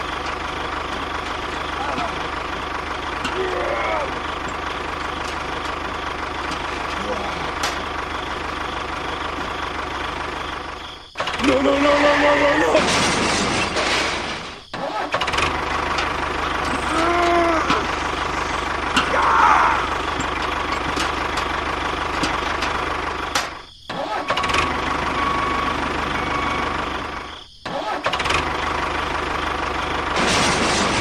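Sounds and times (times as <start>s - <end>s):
small tractor engine running: 0.0s - 31.0s.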